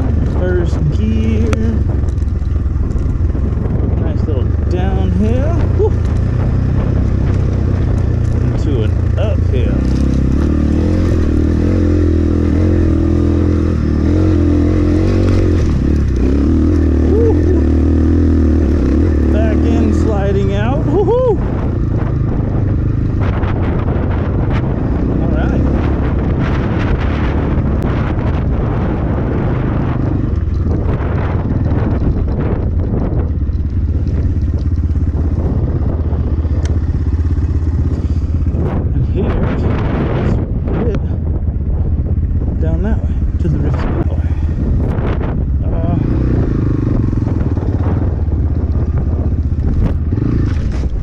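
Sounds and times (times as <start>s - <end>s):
dirt bike engine climbing: 0.0s - 51.0s
wind rumble on microphone: 0.0s - 51.0s.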